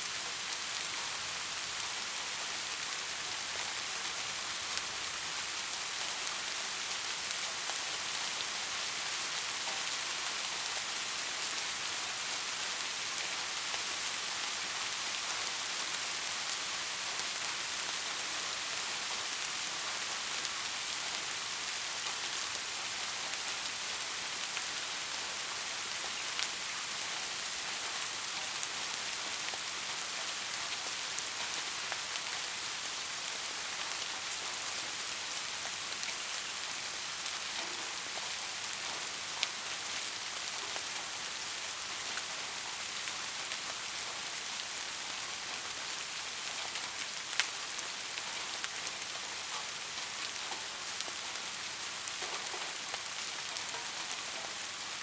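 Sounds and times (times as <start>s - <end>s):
soft rain falling: 0.0s - 55.0s.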